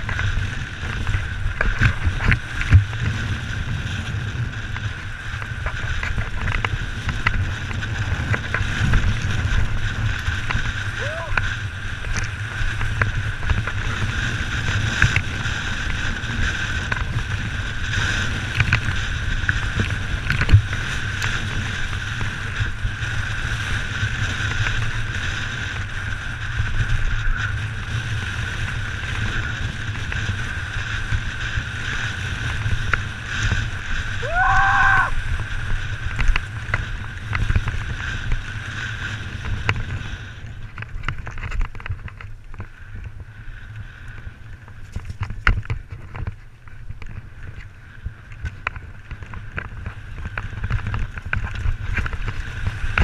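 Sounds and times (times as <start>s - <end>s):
bike tyres rattling over stones: 0.0s - 53.0s
wind rumble: 0.0s - 53.0s.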